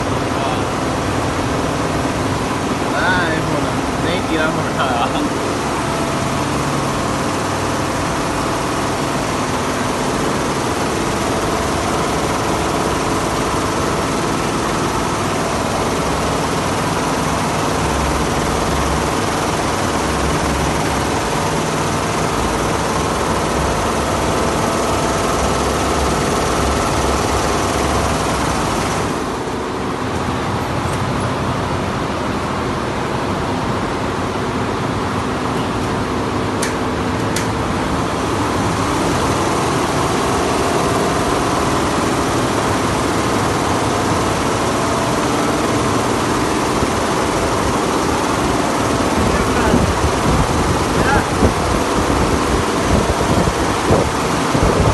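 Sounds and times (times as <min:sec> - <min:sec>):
embroidery machine running: 0:00.0 - 0:54.9.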